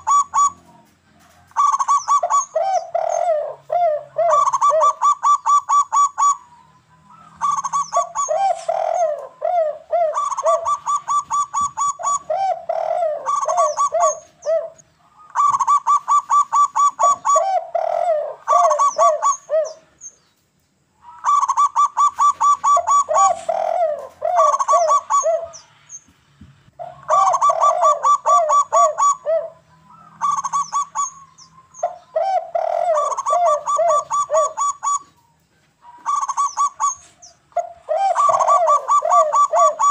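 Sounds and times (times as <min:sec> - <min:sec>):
doves cooing: 0:00.0 - 0:20.1, 0:21.0 - 0:25.9, 0:26.8 - 0:39.9.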